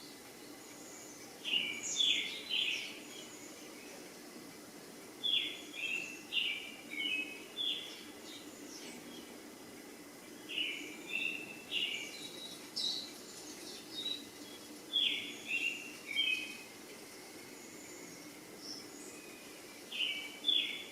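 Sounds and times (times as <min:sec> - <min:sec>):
faint low hum: 0:00.0 - 0:20.9
songbird high chirps: 0:00.0 - 0:20.9.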